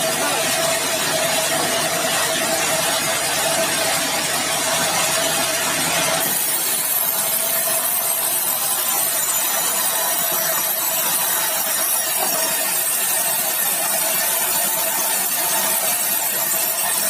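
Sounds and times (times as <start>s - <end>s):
sawmill saw cutting timber: 0.0s - 17.0s.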